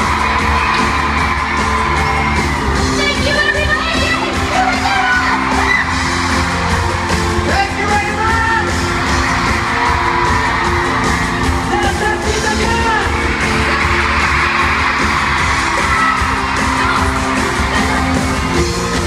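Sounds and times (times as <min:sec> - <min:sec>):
audience yelling and cheering: 0:00.0 - 0:19.0
live pop music with singing: 0:00.0 - 0:19.0.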